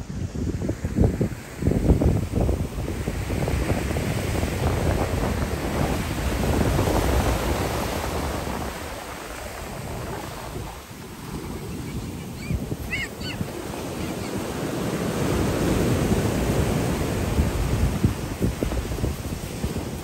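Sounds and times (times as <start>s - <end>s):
ocean surf washing in: 0.0s - 20.0s
wind buffeting microphone: 0.0s - 20.0s.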